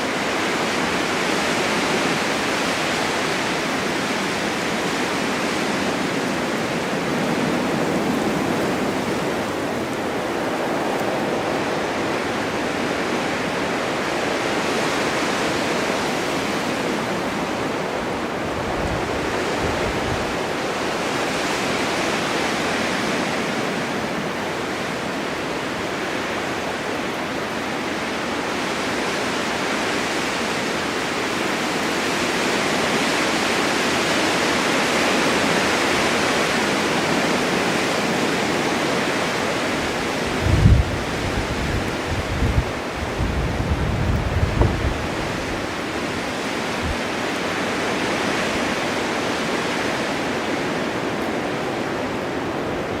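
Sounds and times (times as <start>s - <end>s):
blizzard wind blowing snow: 0.0s - 53.0s
gusts buffeting microphone: 0.0s - 53.0s.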